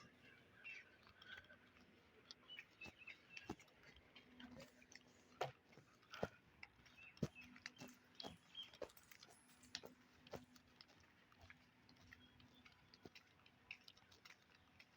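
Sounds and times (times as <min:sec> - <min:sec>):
small birds chirping: 0:00.0 - 0:14.9
sharp ticks and clicks: 0:01.0 - 0:14.9.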